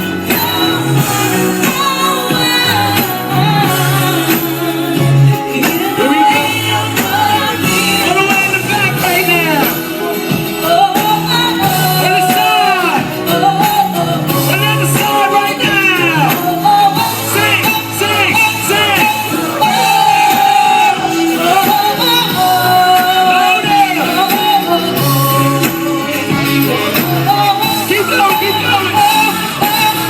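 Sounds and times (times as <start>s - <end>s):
bass line: 0.0s - 30.0s
drums: 0.0s - 30.0s
person singing: 0.0s - 30.0s.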